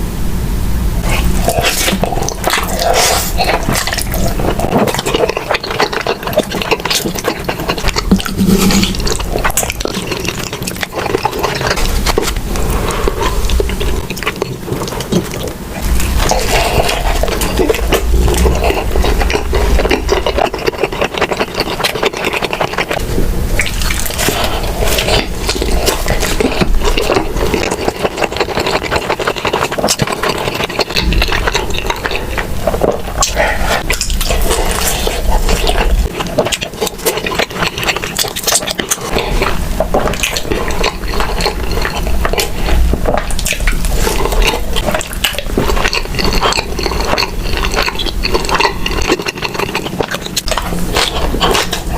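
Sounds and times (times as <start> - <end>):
wet chewing: 1.0 - 51.9.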